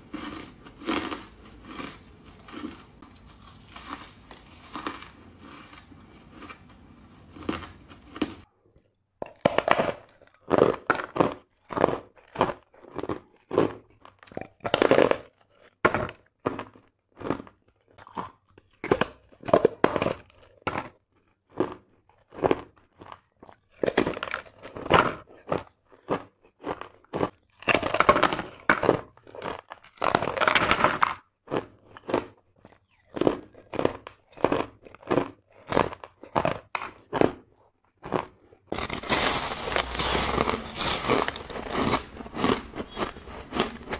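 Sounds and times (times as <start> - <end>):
ice being bitten and chewed: 0.0 - 43.9.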